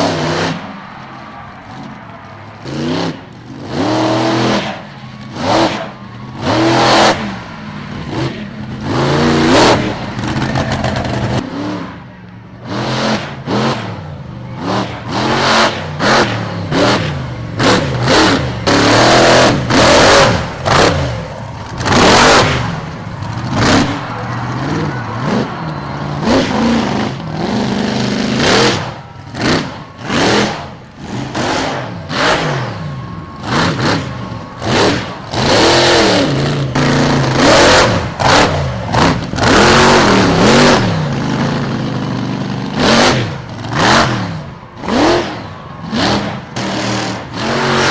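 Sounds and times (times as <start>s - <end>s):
truck engine revving hard: 0.0s - 47.9s.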